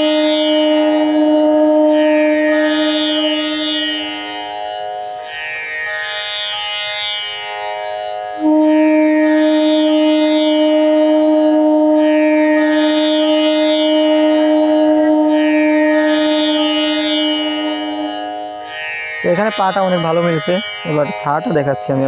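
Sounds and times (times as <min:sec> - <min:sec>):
bamboo flute long steady note: 0:00.0 - 0:22.0
shimmering tanpura drone: 0:00.0 - 0:22.0.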